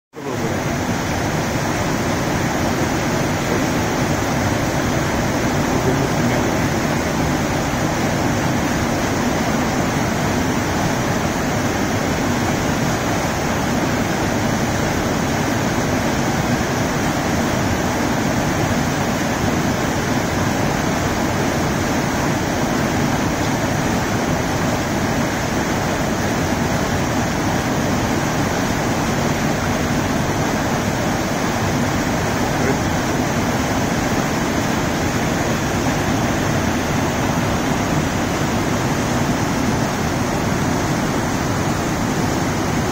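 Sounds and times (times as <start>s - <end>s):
waterfall rushing over rocks: 0.2s - 42.9s.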